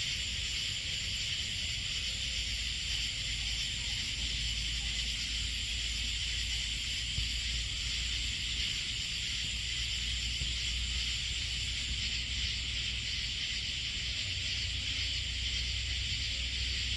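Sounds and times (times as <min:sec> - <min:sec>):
night insects chorus: 0:00.0 - 0:16.9.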